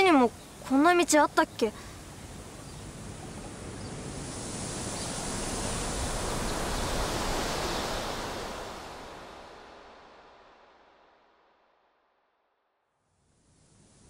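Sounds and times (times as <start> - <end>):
wind rushing through trees: 0.0 - 14.0.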